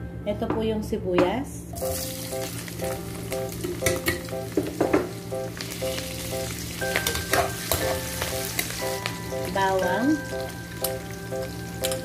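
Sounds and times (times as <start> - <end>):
onions sizzling in oil: 1.8 - 12.0.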